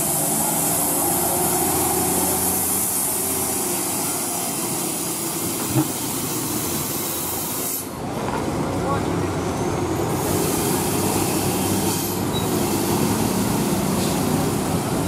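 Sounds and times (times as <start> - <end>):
heavy diesel truck engine: 0.0 - 15.0.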